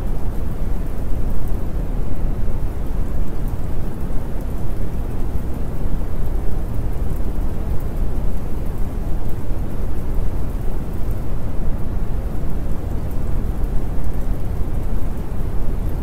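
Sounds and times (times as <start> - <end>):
continuous low rumble: 0.0 - 16.0.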